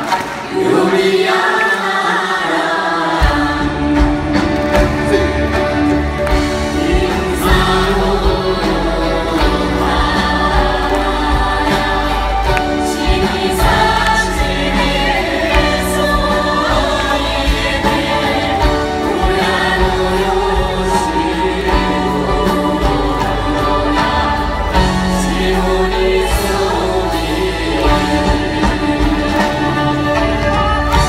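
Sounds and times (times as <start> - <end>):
drumming: 0.0 - 31.0
women's group singing folk song: 0.0 - 31.0.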